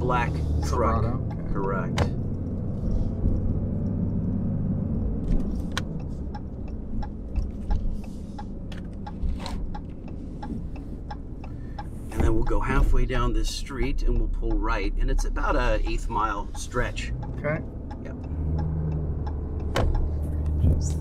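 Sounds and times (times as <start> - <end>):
diesel engine hum: 0.0 - 21.0.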